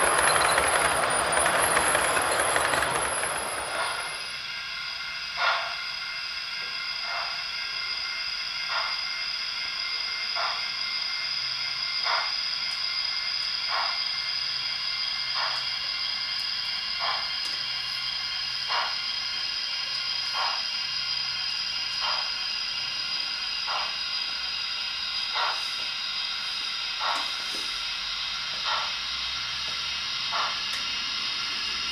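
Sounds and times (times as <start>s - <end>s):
steam locomotive exhaust chuffs: 0.0s - 31.9s
steam hiss from small speaker: 4.3s - 31.9s.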